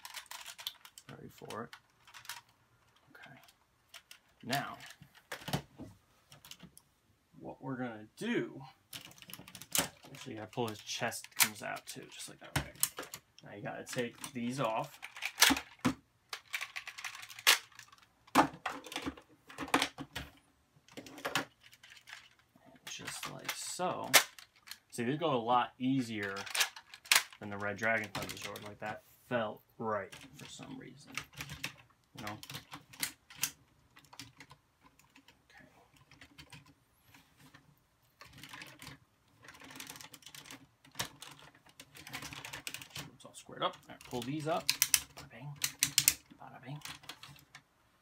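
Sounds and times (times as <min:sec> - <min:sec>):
plastic toy parts clicking: 0:00.0 - 0:05.6, 0:08.9 - 0:25.0, 0:26.1 - 0:28.8, 0:30.0 - 0:36.8, 0:38.2 - 0:43.1, 0:43.7 - 0:47.7.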